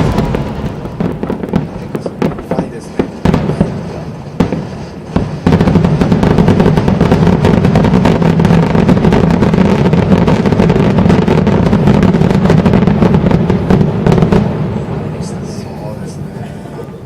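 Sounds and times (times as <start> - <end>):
fireworks bangs and crackling: 0.0 - 16.5.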